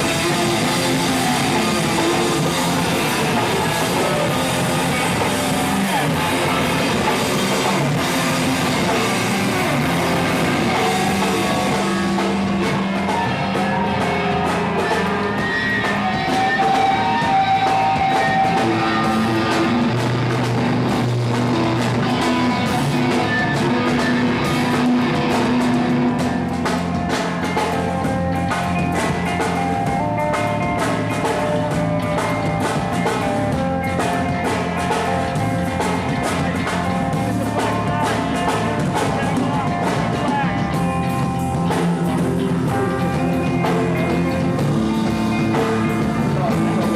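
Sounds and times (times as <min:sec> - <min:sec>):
rock band playing: 0:00.0 - 0:46.9.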